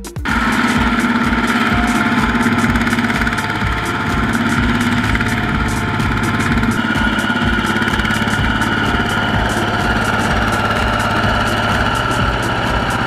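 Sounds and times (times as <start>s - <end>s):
diesel engine running: 0.2s - 13.0s.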